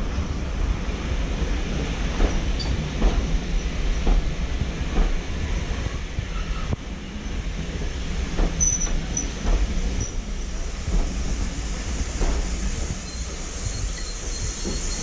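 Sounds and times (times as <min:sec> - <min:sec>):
train rumbling with knocks: 0:00.0 - 0:15.0.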